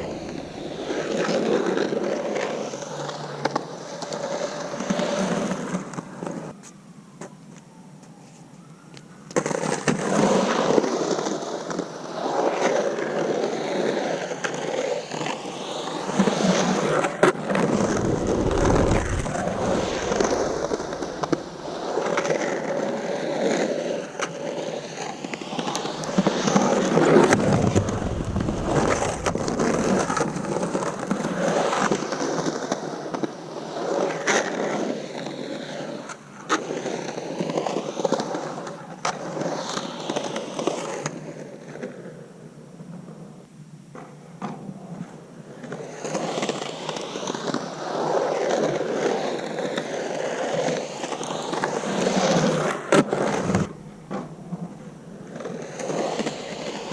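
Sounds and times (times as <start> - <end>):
skateboard wheels rolling: 0.0 - 6.5, 9.3 - 42.3, 43.9 - 56.9.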